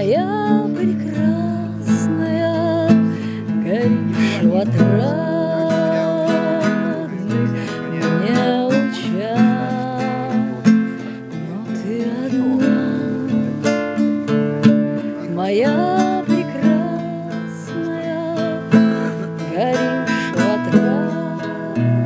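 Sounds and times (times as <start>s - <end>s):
acoustic guitar strumming: 0.0s - 22.0s
sliding melody with held notes: 0.0s - 22.0s.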